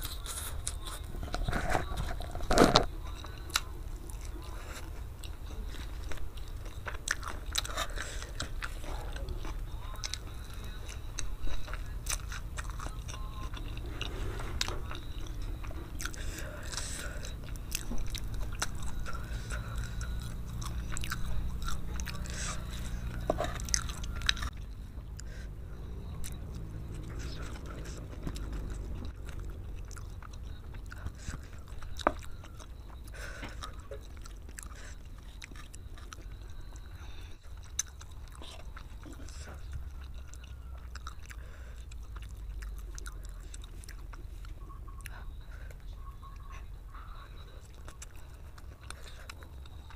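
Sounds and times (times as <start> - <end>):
chewing noodles: 0.0 - 49.9.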